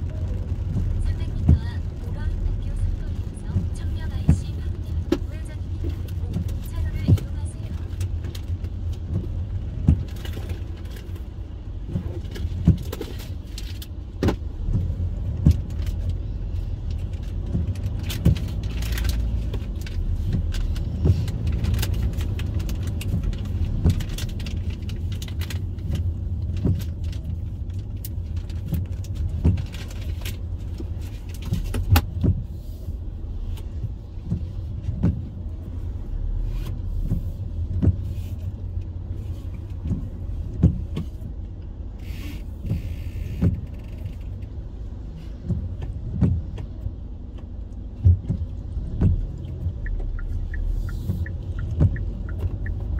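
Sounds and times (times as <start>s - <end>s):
engine and tyres on wet road: 0.0s - 52.9s
rain tapping on windshield: 0.0s - 52.9s.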